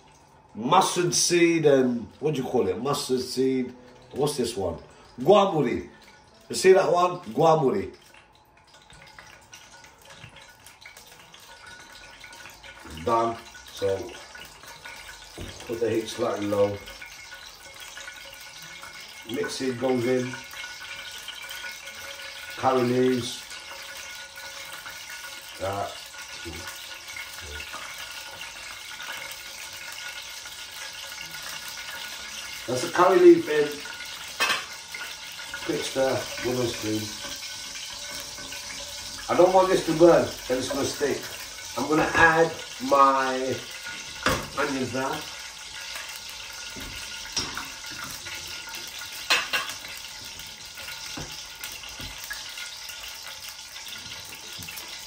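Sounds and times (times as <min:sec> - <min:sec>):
spices sizzling in hot oil: 0:00.0 - 0:55.0.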